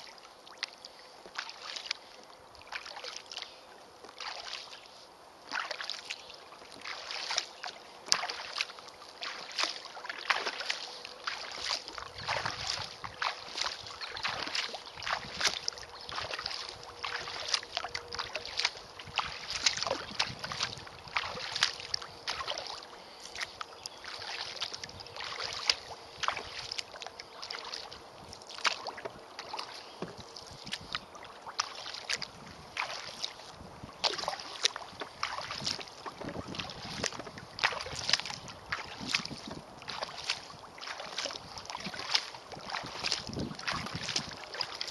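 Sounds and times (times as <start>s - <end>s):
paddle splashing and dripping: 0.0s - 44.9s
water trickling against hull: 0.0s - 44.9s.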